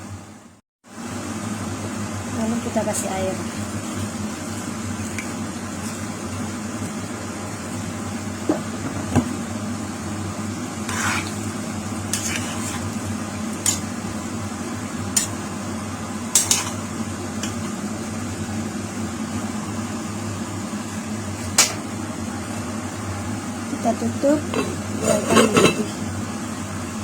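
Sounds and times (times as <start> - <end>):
steady low hum: 1.1 - 27.0.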